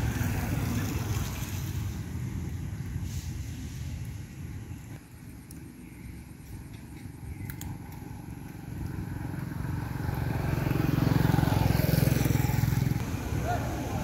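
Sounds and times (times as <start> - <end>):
vehicle engine approaching: 0.0 - 5.2, 5.8 - 14.0.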